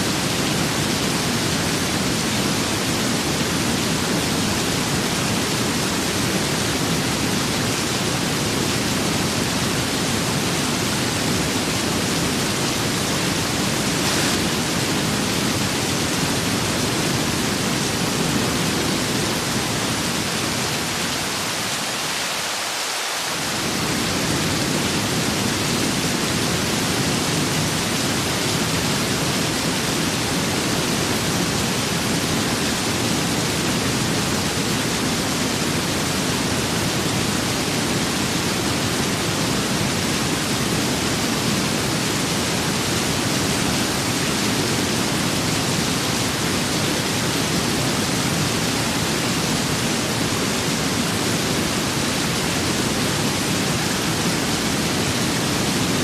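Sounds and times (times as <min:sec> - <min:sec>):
rain and wind storm: 0:00.0 - 0:56.0.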